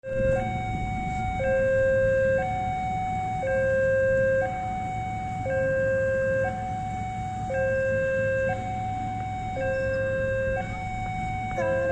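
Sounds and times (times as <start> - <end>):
level crossing two-tone alarm: 0.0 - 11.9
low steady rumble: 0.0 - 11.9.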